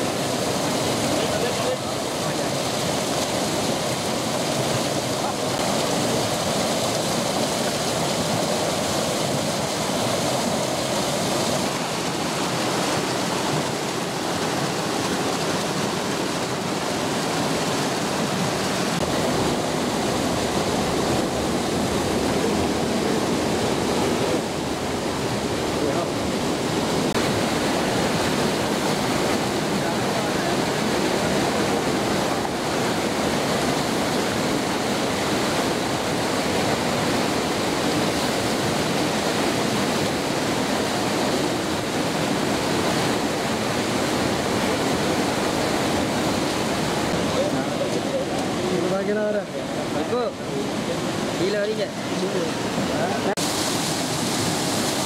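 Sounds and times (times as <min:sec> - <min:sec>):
water churning: 0:00.0 - 0:55.0.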